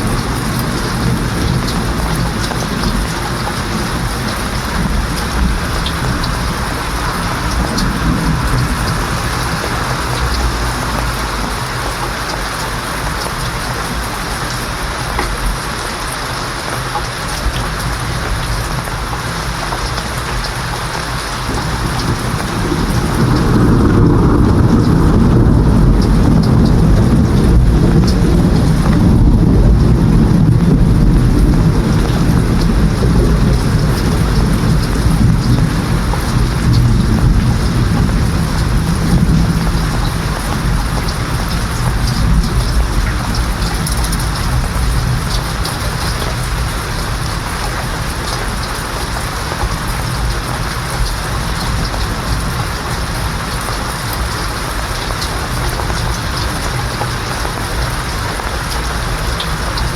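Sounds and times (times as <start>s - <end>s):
heavy rain hissing: 0.0s - 59.9s
thunder rumbling: 0.0s - 59.9s.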